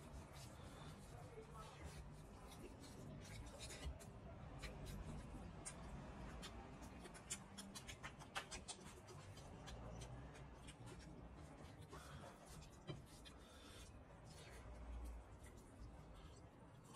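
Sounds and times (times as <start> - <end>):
wet chewing and mouth noises: 0.0 - 16.9.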